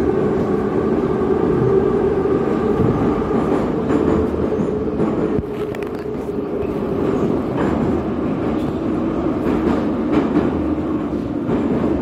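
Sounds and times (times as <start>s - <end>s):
metro train rumble: 0.0s - 12.0s.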